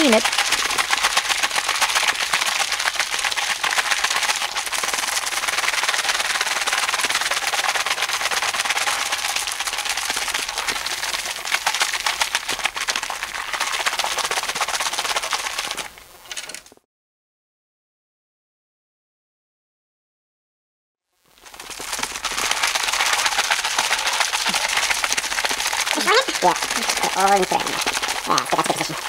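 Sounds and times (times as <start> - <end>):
bottle being shaken rattling: 0.0 - 16.6, 21.4 - 29.0.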